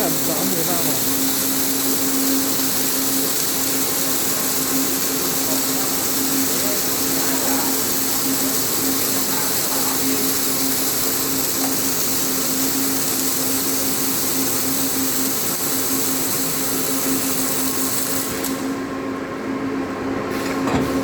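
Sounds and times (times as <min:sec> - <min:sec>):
welding arcs hissing: 0:00.0 - 0:18.9
welding machine low hum: 0:00.0 - 0:21.0.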